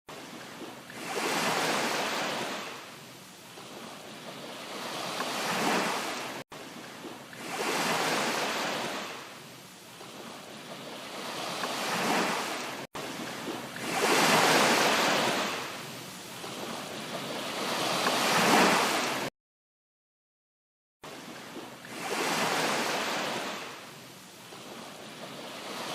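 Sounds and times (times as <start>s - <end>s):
rushing water: 0.1s - 19.3s, 21.0s - 25.9s.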